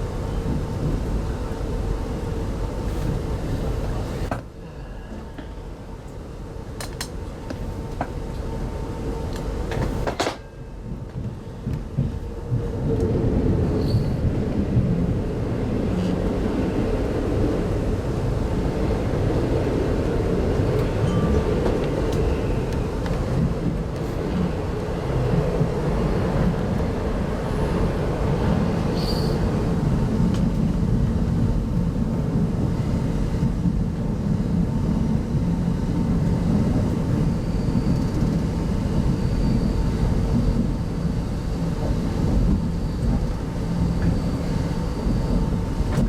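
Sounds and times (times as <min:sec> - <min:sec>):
train wheel and rail rumble: 0:00.0 - 0:46.0.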